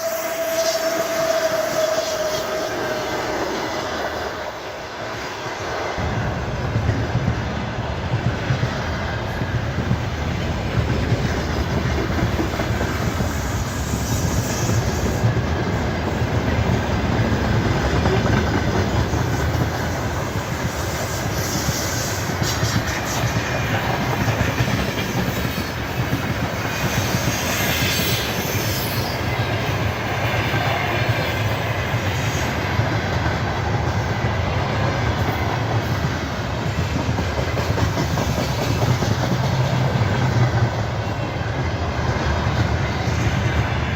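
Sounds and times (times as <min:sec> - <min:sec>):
train wheels rumbling on rails: 0:00.0 - 0:43.9
clickety-clack over rail joints: 0:00.1 - 0:43.9.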